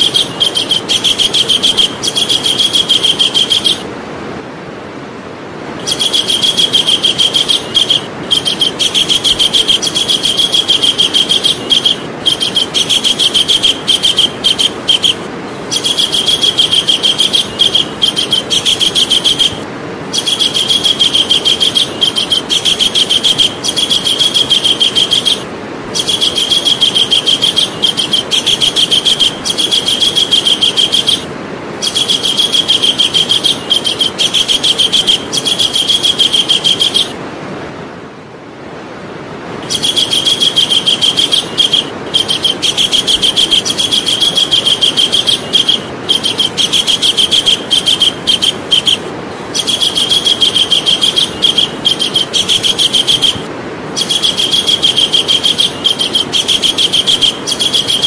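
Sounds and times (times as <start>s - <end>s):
bird rattling trills: 0.0s - 3.9s, 5.8s - 37.2s, 39.6s - 58.0s
background hiss: 0.0s - 58.0s.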